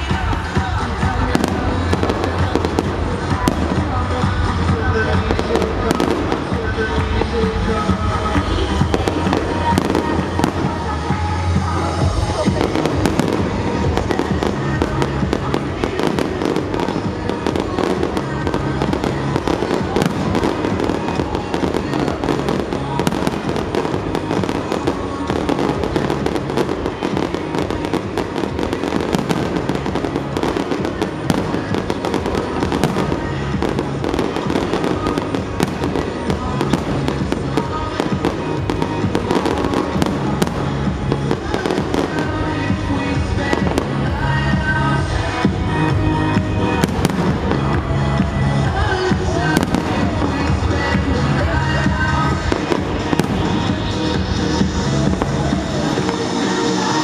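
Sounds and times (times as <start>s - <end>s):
fireworks bangs and crackles: 0.0s - 57.0s
music playing: 0.0s - 57.0s.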